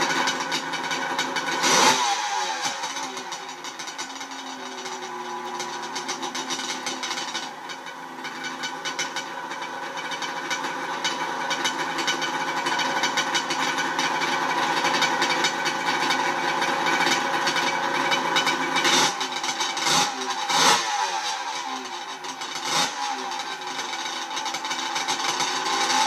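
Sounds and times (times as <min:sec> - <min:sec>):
two-stroke engine idling: 0:00.0 - 0:26.0.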